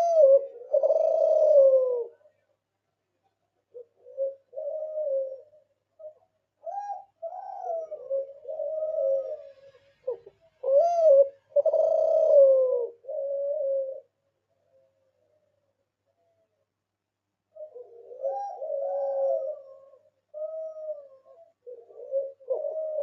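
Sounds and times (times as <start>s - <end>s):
dove cooing: 0.0s - 2.5s, 3.6s - 15.5s, 17.5s - 23.0s.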